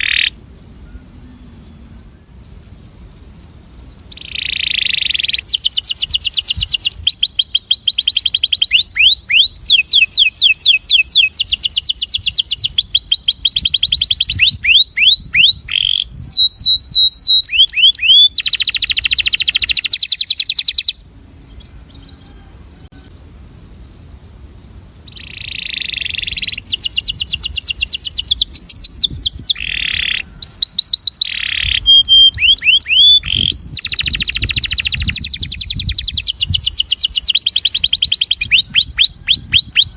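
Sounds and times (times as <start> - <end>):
canary singing: 0.0 - 1.8, 2.4 - 22.5, 25.1 - 39.9.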